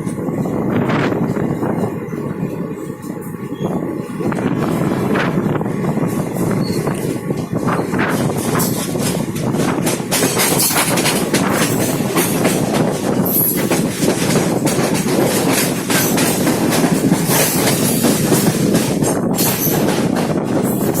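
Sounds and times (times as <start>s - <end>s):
train wheels clattering: 0.0s - 21.0s.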